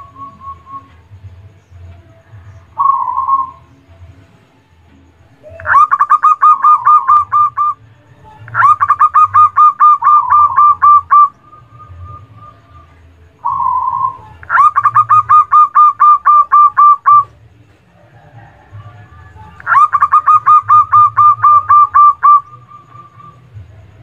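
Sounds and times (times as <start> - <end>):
low warbling coo: 1.9 - 3.9, 5.4 - 24.0
dove cooing: 2.2 - 3.7, 5.4 - 24.0.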